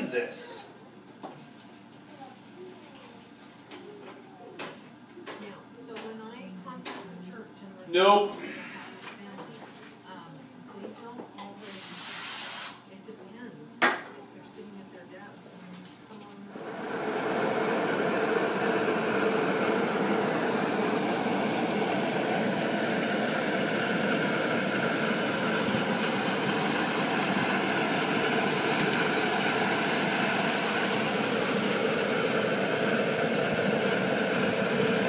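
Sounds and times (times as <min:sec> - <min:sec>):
ventilation fans humming: 0:00.0 - 0:35.0.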